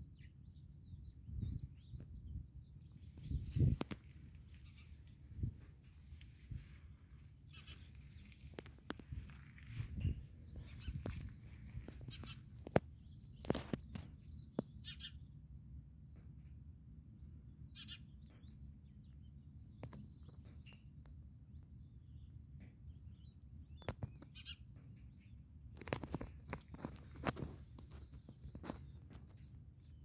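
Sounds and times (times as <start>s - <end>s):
birds chirping faintly: 0.0s - 15.4s, 17.2s - 30.0s
low background rumble: 0.0s - 30.0s.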